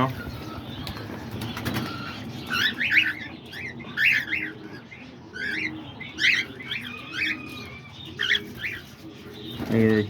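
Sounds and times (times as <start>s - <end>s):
parrots chirping: 0.2s - 9.5s.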